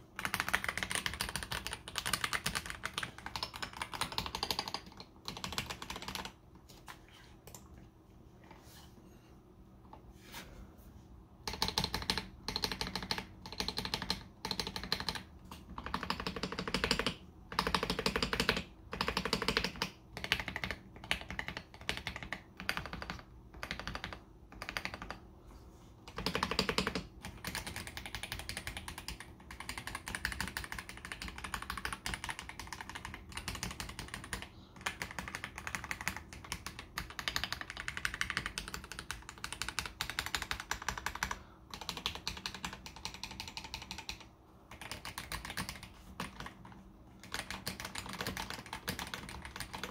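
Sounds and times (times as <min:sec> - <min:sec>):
mechanical keyboard typing: 0:00.0 - 0:07.7, 0:11.4 - 0:25.2, 0:26.1 - 0:49.9.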